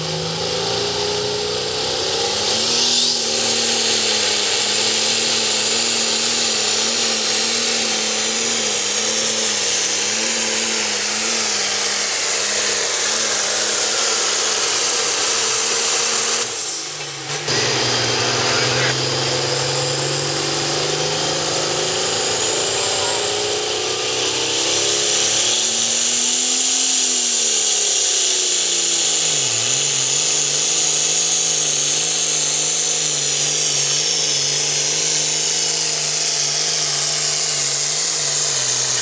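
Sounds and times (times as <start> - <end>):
diesel tractor engine at full throttle: 0.0 - 39.0
turbo whistle and whine: 0.0 - 39.0.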